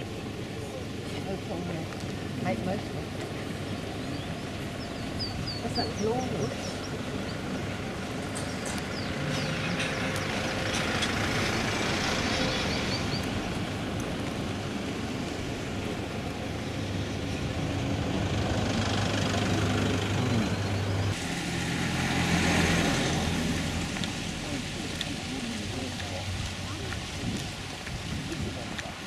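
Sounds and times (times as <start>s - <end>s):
bus engine running under load: 0.0s - 29.0s.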